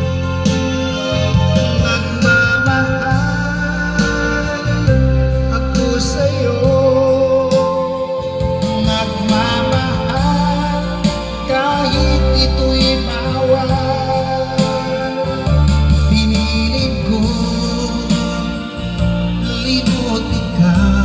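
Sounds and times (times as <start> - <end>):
heavy bass line: 0.0 - 21.0
song with singing voice: 0.0 - 21.0.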